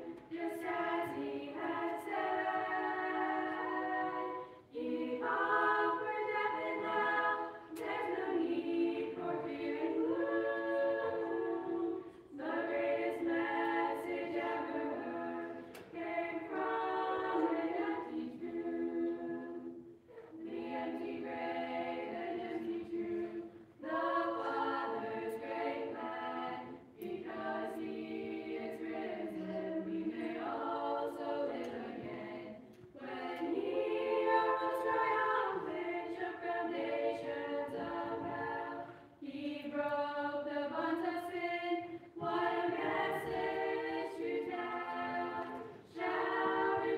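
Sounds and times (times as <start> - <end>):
children's choir singing a cappella: 0.0 - 46.9.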